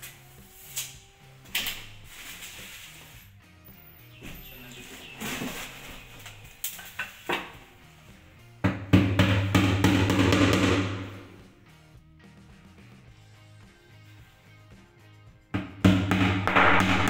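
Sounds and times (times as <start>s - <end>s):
background music with drum beat: 0.0s - 17.0s.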